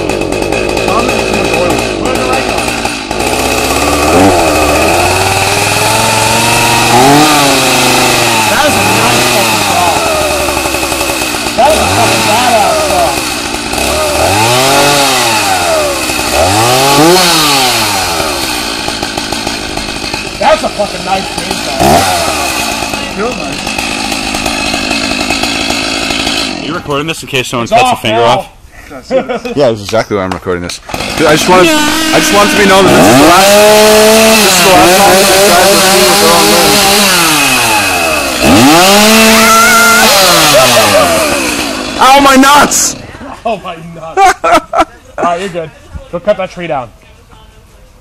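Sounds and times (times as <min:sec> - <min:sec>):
chainsaw engine revving: 0:00.0 - 0:27.1, 0:30.8 - 0:43.2.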